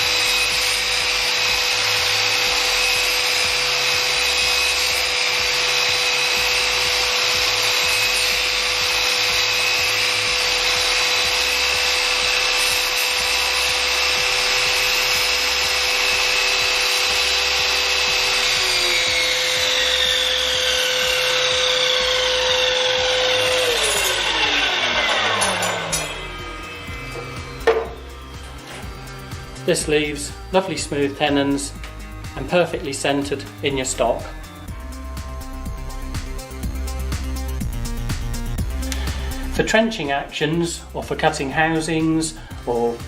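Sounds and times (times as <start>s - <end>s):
mitre saw motor whining: 0.0s - 43.0s.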